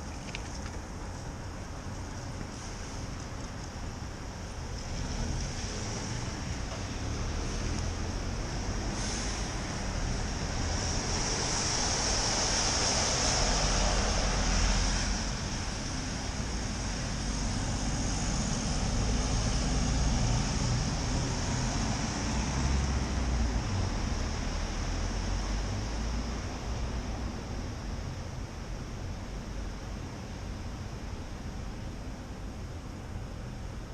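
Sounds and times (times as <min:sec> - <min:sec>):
tyres hissing on wet pavement: 0:00.0 - 0:27.4
traffic passing: 0:00.0 - 0:33.9.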